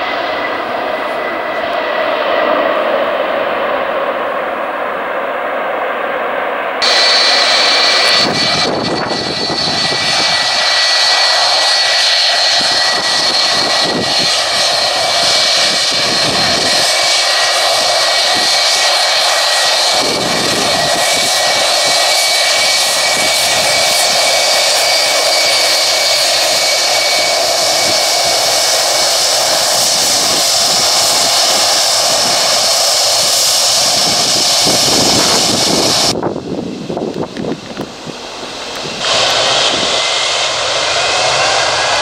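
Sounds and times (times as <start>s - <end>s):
jet engines running: 0.0s - 42.0s
steady high whine: 0.0s - 42.0s.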